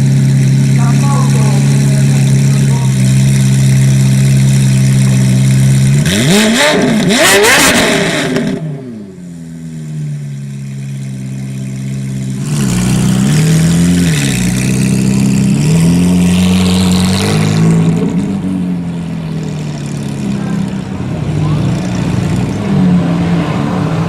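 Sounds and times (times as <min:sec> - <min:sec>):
sports car engine idling: 0:00.0 - 0:23.3.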